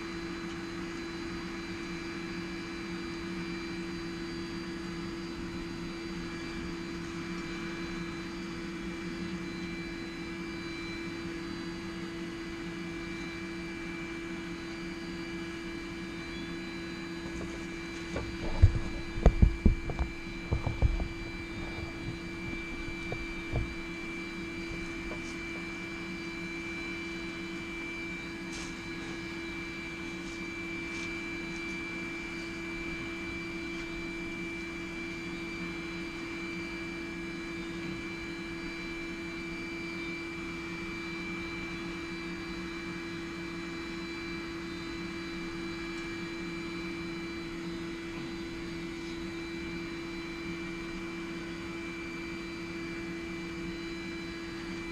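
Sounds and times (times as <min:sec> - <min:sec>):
forge humming: 0:00.0 - 0:54.9.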